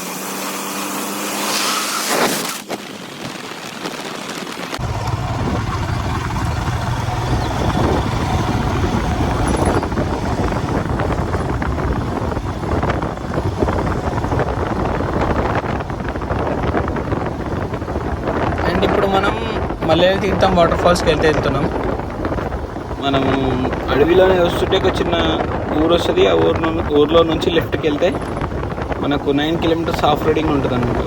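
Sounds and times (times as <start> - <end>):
motorcycle engine and road noise: 0.0 - 31.0
wind rushing over microphone: 0.0 - 31.0
heavy low rumble: 4.7 - 31.0.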